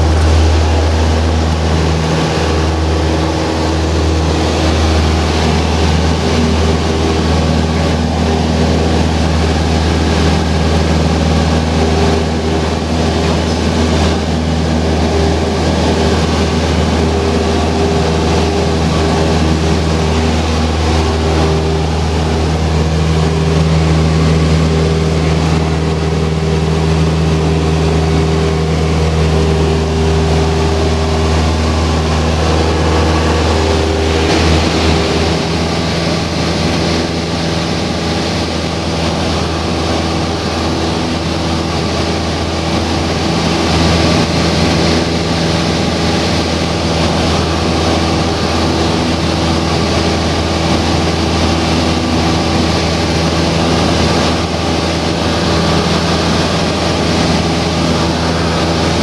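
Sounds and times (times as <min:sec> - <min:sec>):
airplane engine and propeller droning: 0:00.0 - 0:59.0.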